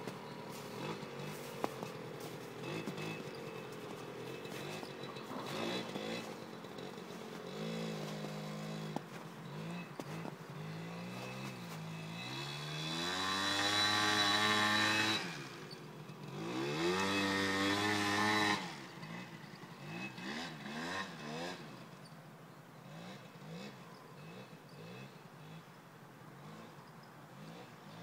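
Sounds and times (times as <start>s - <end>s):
quad bike engine revving: 0.0s - 22.1s, 22.8s - 28.0s.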